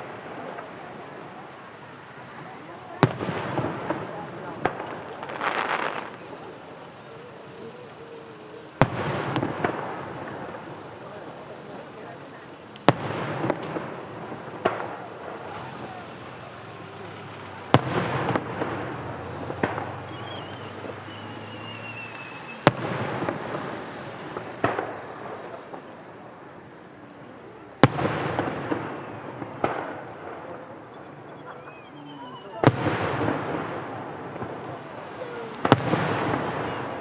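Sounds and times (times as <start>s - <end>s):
firework shells bursting: 0.0s - 32.0s, 32.6s - 37.0s
firework crackling: 0.0s - 37.0s.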